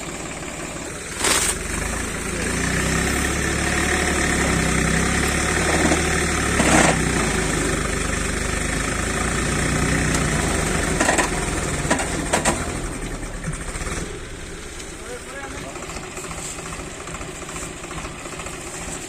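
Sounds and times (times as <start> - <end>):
tractor diesel engines running: 0.0 - 19.0.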